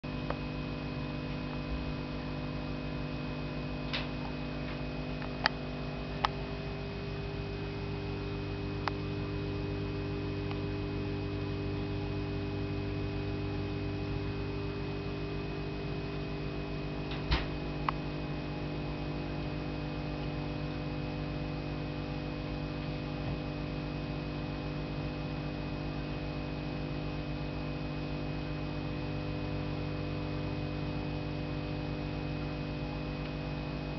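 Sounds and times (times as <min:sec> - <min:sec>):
electrical hum: 0:00.0 - 0:33.9.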